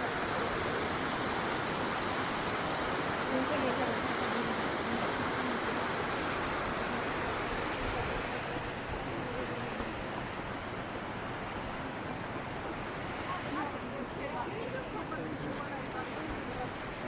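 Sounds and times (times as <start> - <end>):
large waterfall rushing: 0.0 - 17.0.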